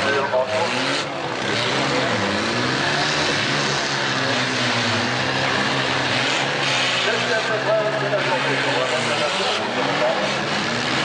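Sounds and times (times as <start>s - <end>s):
car engines revving high: 0.0s - 11.0s
cars ramming each other: 0.0s - 11.0s.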